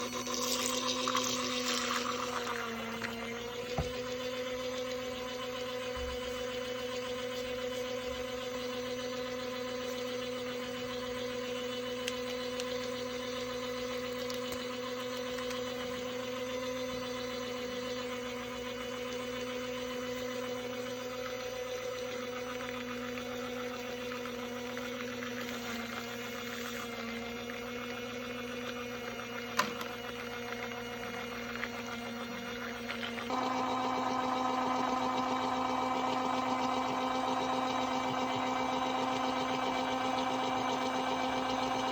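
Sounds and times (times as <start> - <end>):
toy washing machine motor humming: 0.0 - 41.9.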